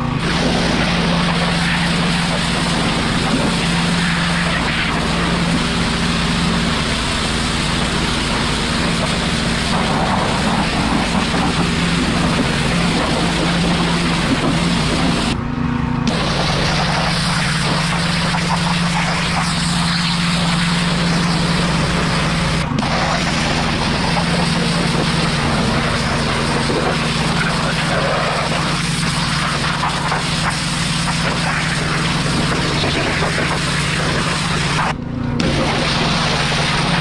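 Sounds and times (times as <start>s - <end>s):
water jet hissing on metal: 0.0s - 15.4s, 16.1s - 37.0s
pressure washer motor droning: 0.0s - 37.0s.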